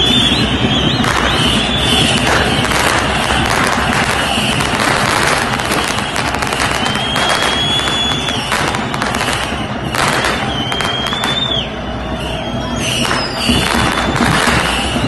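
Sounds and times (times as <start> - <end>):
crowd noise: 0.0 - 15.0
firecrackers banging: 0.0 - 15.0
high whistle: 0.0 - 15.0.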